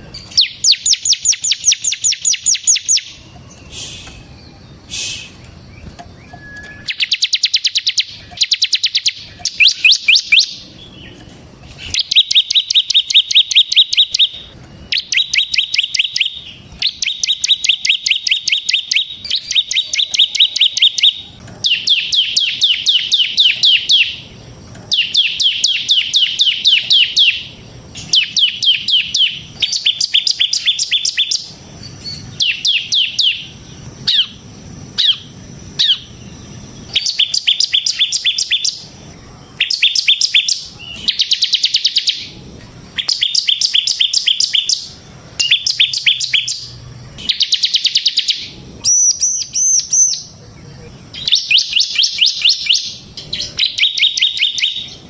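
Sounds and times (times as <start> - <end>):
bird singing sharp chirps: 0.0 - 55.0
buzzy bird notes: 0.0 - 55.0.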